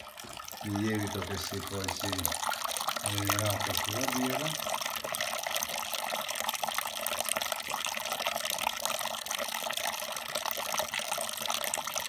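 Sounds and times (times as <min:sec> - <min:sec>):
liquid pouring and splashing: 0:00.0 - 0:12.0.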